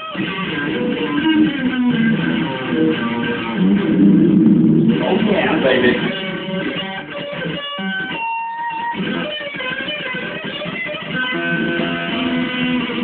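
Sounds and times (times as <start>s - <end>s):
electric guitar through amplifier: 0.0s - 13.0s.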